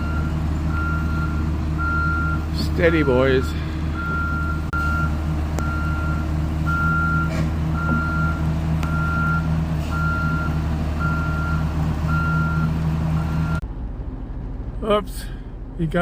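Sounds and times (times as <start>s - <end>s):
excavator backup alarm beeping: 0.0s - 13.6s
diesel engine droning: 0.0s - 16.0s.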